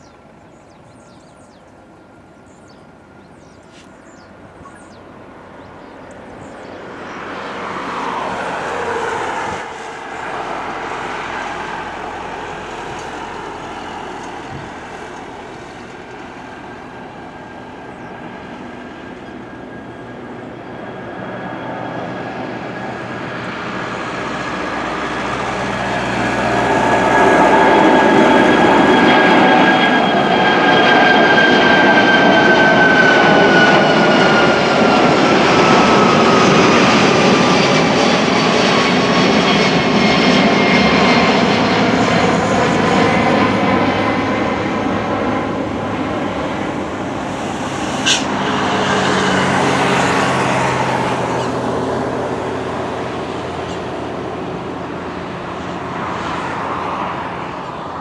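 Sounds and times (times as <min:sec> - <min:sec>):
jet engines whining and roaring: 0:00.0 - 0:58.0.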